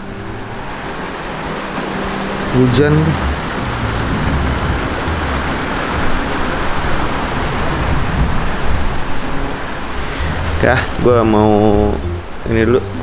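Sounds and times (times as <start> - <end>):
rain pouring: 0.0 - 13.0.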